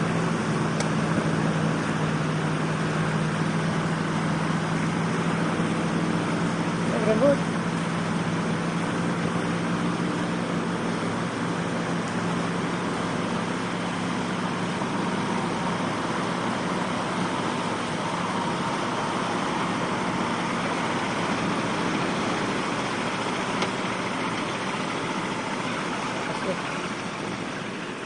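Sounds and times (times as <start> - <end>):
constant rushing noise: 0.0 - 28.0
vehicle engine running: 0.0 - 28.0.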